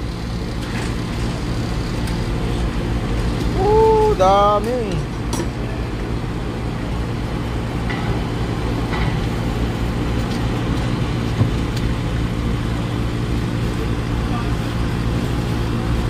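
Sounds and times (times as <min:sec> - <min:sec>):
engine idling drone: 0:00.0 - 0:16.0.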